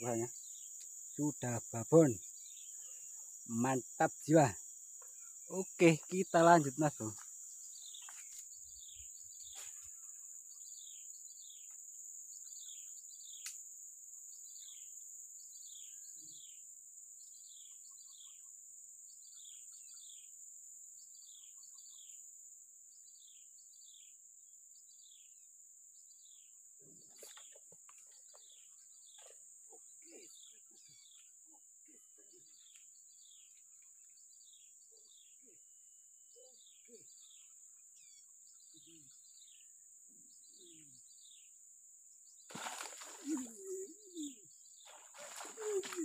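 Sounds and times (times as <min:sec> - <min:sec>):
insects droning: 0:00.0 - 0:46.0.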